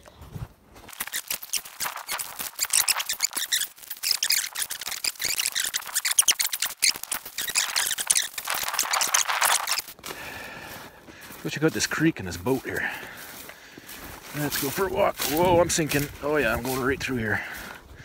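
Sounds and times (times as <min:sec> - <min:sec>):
footsteps crunching through snow: 0:00.0 - 0:18.0.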